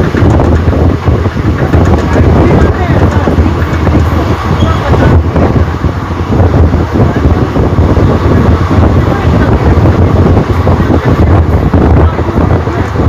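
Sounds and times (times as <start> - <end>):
people talking: 0.0 - 13.0
train wheels rumbling on rails: 0.0 - 13.0
wind rushing through windows: 0.0 - 13.0.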